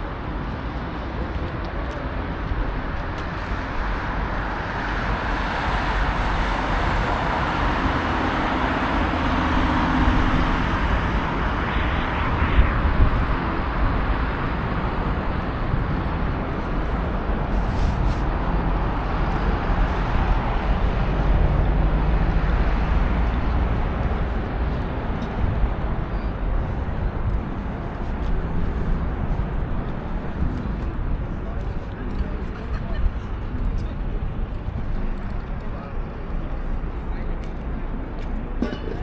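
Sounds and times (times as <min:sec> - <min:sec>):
city street traffic: 0:00.0 - 0:39.0.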